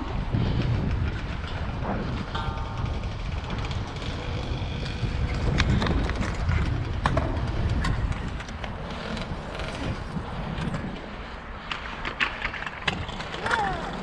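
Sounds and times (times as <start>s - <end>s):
bike rattling over bumps: 0.0s - 14.0s
wind and rolling tyres rumble: 0.0s - 14.0s.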